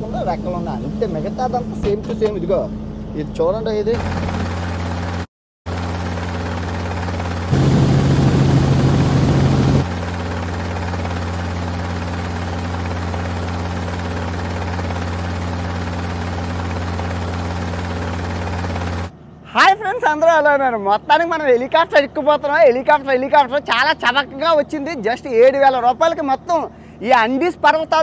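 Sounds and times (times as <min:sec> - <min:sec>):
helicopter rotor and engine drone: 0:00.0 - 0:28.0.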